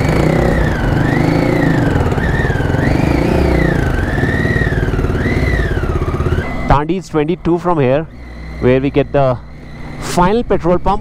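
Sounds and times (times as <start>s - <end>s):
high wavering whistling tone: 0.0s - 11.0s
motorcycle engine at low speed: 0.0s - 11.0s.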